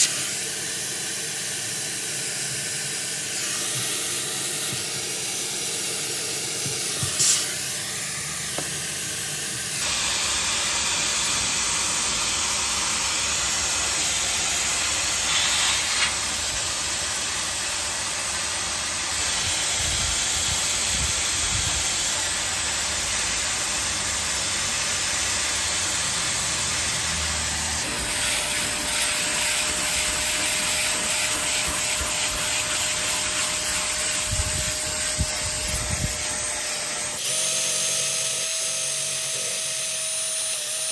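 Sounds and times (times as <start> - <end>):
loud hissing of steam: 0.0 - 37.2.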